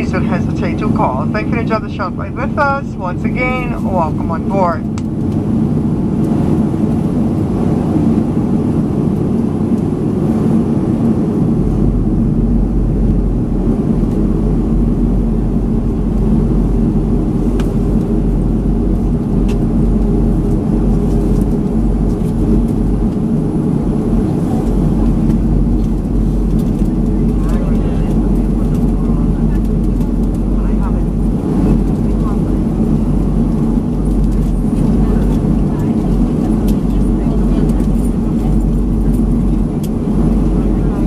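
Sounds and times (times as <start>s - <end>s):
airplane cabin rumble: 0.0s - 41.0s
deep low hum: 0.0s - 41.0s.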